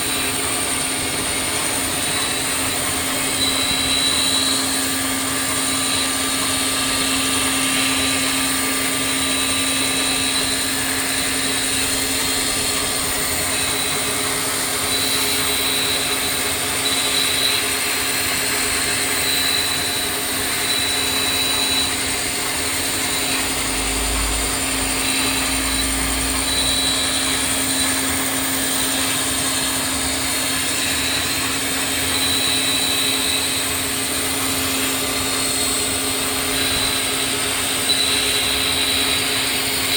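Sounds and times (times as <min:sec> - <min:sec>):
high machine tone: 0:00.0 - 0:39.9
milling machine humming: 0:00.0 - 0:39.9.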